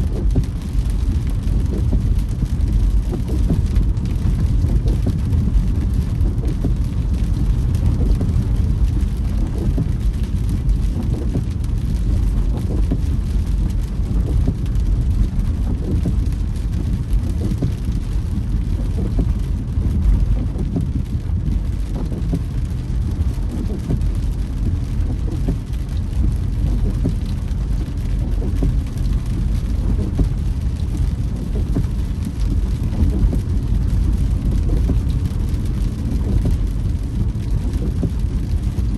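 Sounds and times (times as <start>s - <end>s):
car driving rumble from inside: 0.0s - 38.9s
faint rain patter: 0.0s - 38.9s.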